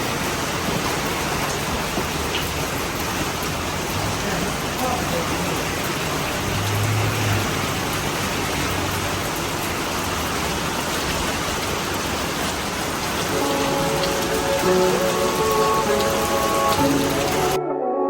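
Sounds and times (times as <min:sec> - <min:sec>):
heavy rain falling: 0:00.0 - 0:17.6.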